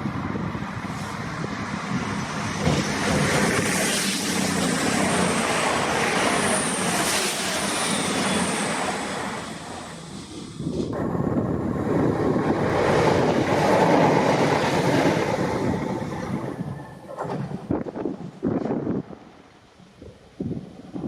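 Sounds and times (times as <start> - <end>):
train passing by: 0.0 - 19.6.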